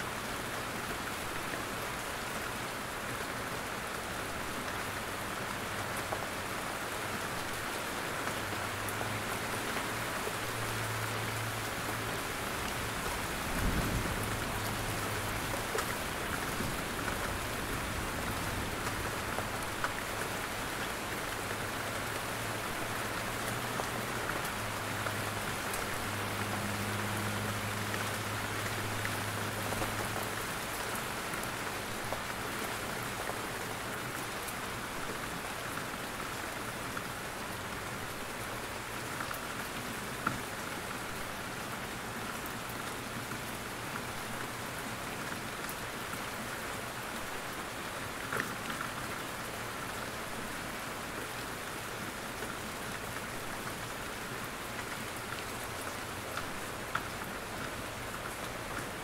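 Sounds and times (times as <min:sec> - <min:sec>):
steady rain in forest: 0:00.0 - 0:59.0.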